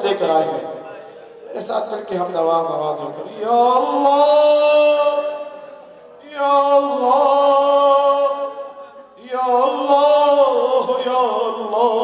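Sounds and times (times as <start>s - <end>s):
man chanting: 0.0s - 12.0s.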